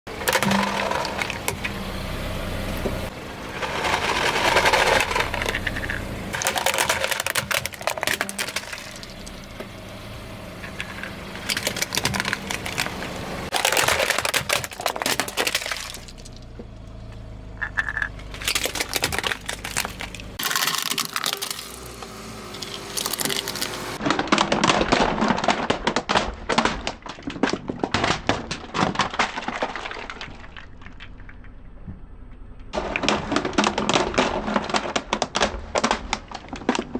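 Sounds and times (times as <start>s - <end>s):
low car engine hum: 0.1s - 36.9s
objects crunching under car tyres: 0.1s - 36.9s.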